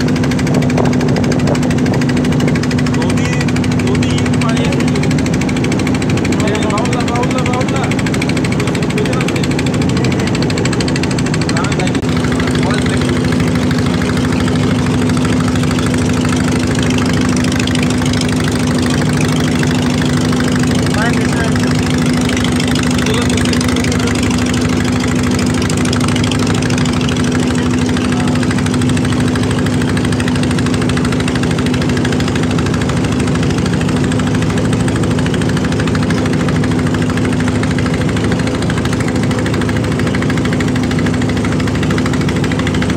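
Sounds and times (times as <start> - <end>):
boat engine humming: 0.0 - 42.9
engine rattle: 0.0 - 42.9.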